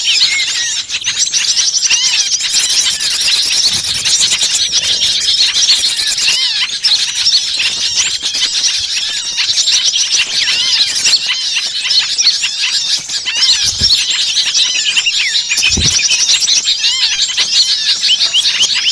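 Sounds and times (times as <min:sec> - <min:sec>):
small songbirds chirping: 0:00.0 - 0:18.9.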